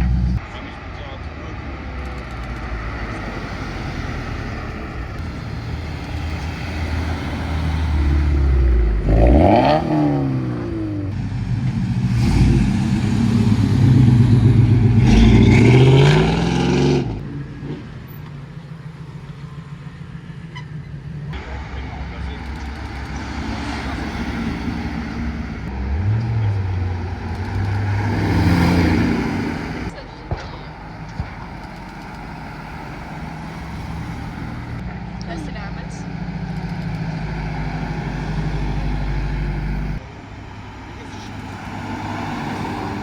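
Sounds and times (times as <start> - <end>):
car engine revving: 0.0 - 40.2, 40.9 - 43.0
car engine idling: 0.0 - 43.0.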